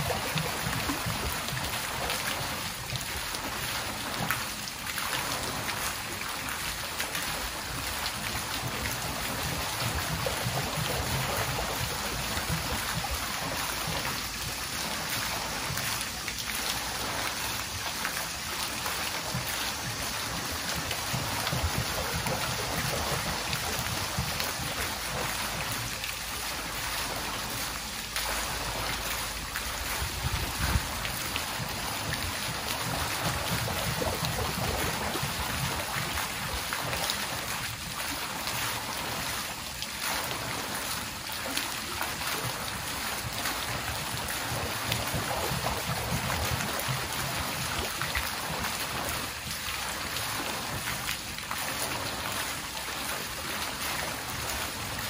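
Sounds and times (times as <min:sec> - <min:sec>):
water dripping and trickling: 0:00.0 - 0:55.0.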